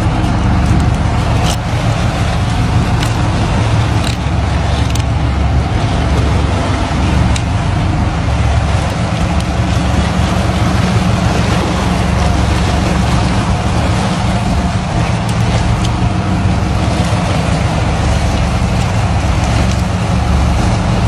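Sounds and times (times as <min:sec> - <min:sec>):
boat motor rumbling: 0:00.0 - 0:21.0
water rushing along hull: 0:00.0 - 0:21.0.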